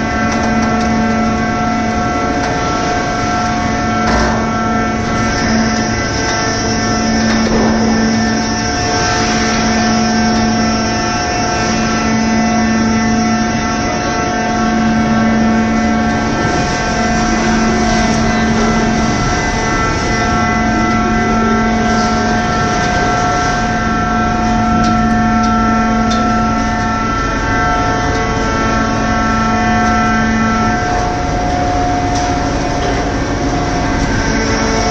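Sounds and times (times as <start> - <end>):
baler machine drone: 0.0 - 34.9
low hum: 0.0 - 34.9.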